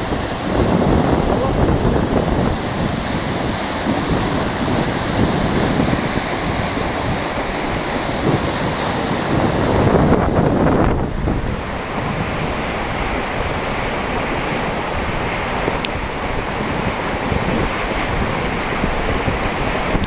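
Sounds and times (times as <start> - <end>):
heavy rain: 0.0 - 20.0
running water: 0.0 - 20.0
wind buffeting microphone: 0.0 - 20.0.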